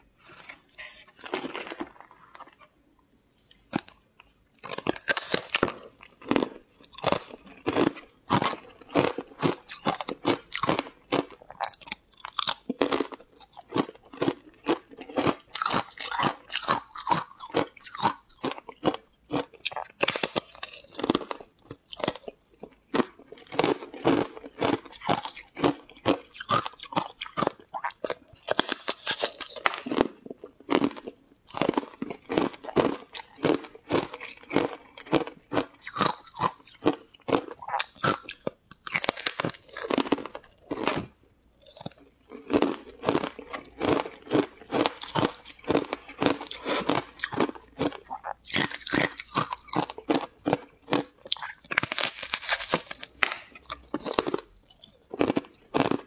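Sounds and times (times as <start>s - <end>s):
person chewing: 0.1s - 56.0s
crunching bites: 3.7s - 22.4s, 23.0s - 56.0s.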